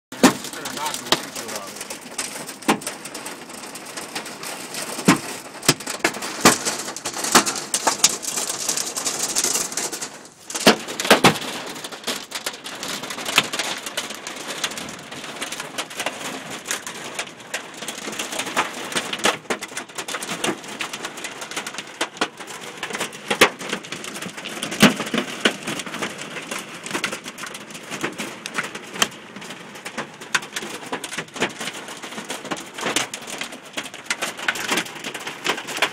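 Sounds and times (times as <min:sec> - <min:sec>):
hailstones hitting a car: 0:00.1 - 0:35.9
hiss of falling hail and rain: 0:00.2 - 0:35.9.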